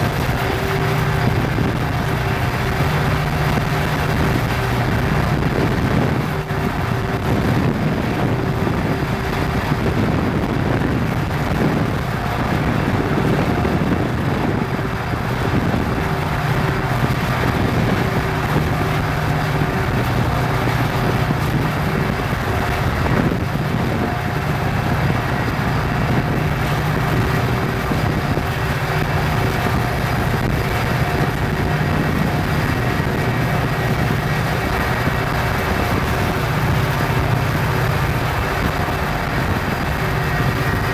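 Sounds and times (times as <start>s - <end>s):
diesel locomotive engine drone: 0.0s - 40.9s
road and wind noise: 0.0s - 40.9s.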